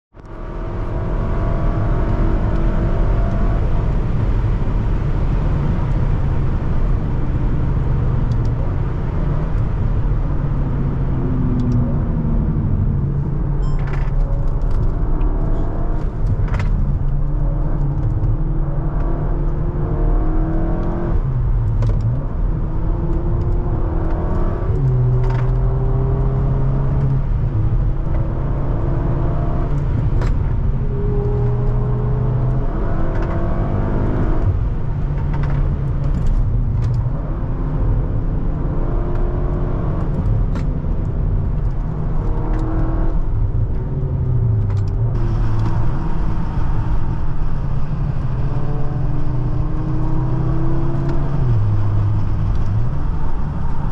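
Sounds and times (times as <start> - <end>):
car engine accelerating: 0.2 - 53.9.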